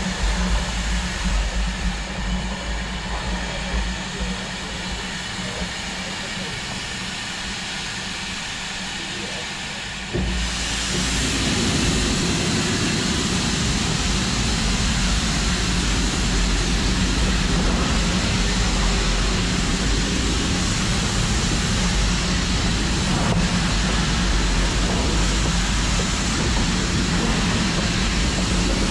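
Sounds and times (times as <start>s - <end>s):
low rumble: 0.0s - 7.2s, 10.0s - 28.9s
steam hissing from locomotive: 0.0s - 28.9s.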